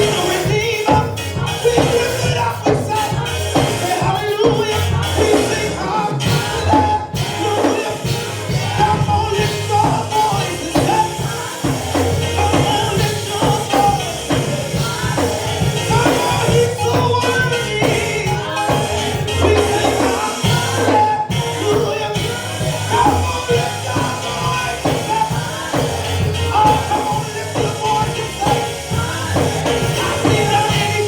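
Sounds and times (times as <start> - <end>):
live gospel music: 0.0 - 31.0
singing: 0.0 - 31.0.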